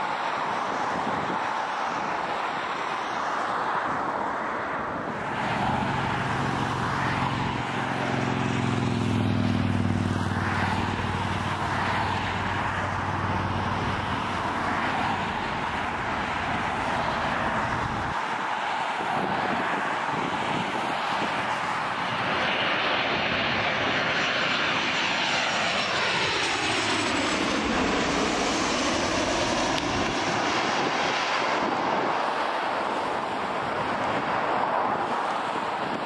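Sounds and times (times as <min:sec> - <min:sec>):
jet airliner engine droning: 0:00.0 - 0:36.0
wind: 0:00.0 - 0:36.0.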